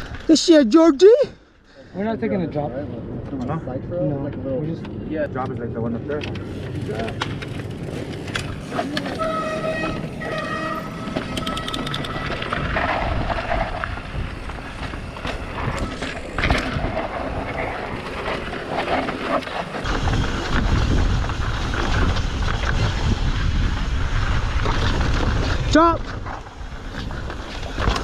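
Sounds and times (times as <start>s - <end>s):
wind buffeting microphone: 5.2s - 28.0s
bike rattles and knocks: 5.4s - 28.0s
bike tyres on rocky trail: 5.4s - 28.0s.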